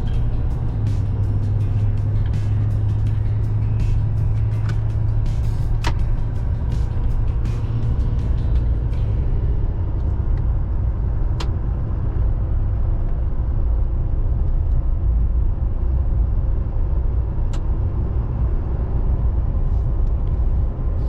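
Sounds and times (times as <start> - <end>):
vehicle engine and tyre rumble: 0.0 - 21.0.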